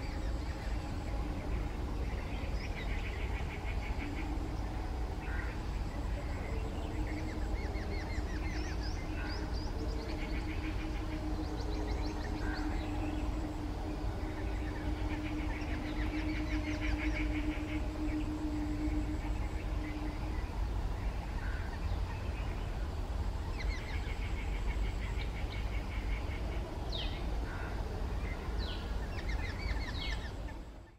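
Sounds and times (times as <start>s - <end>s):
birds chirping: 0.0s - 30.9s
low rumble: 0.0s - 30.9s
low steady hum: 0.0s - 30.9s.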